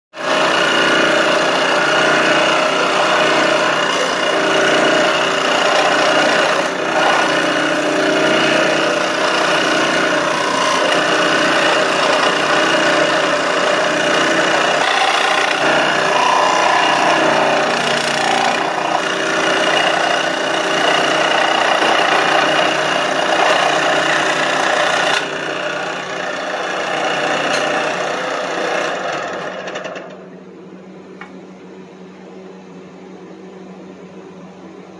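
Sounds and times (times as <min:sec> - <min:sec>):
scroll saw cutting wood: 0:00.2 - 0:30.0.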